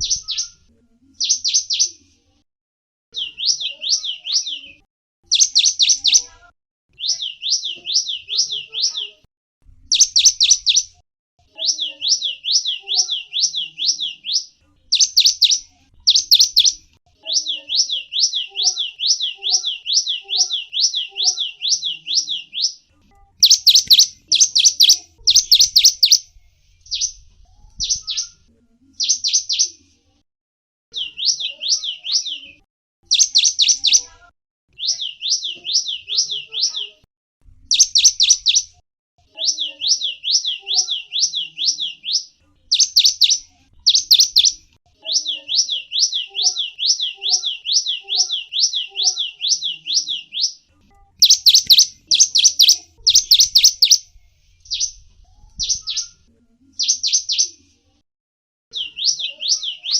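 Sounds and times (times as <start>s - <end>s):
songbird singing: 0.0s - 2.0s, 3.1s - 27.2s, 27.8s - 29.8s, 30.9s - 34.1s, 34.7s - 37.0s, 37.7s - 38.8s, 39.4s - 55.0s, 55.6s - 56.2s, 58.7s - 59.9s.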